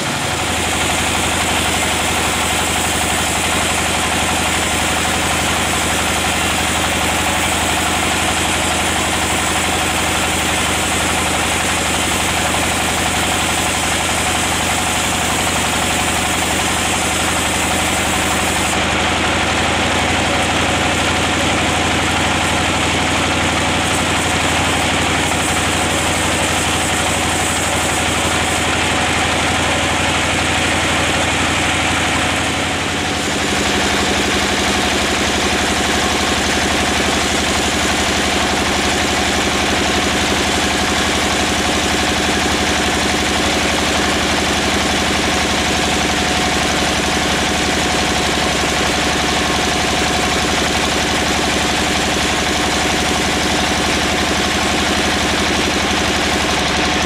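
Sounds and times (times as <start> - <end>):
band saw cutting log: 0.0 - 57.0.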